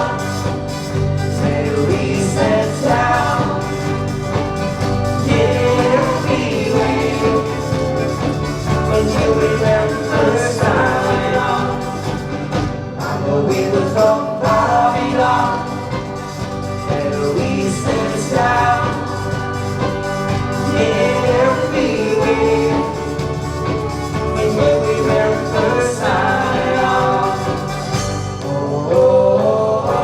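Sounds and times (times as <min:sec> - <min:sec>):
live band playing pop song: 0:00.0 - 0:30.0
voices singing together: 0:00.0 - 0:30.0.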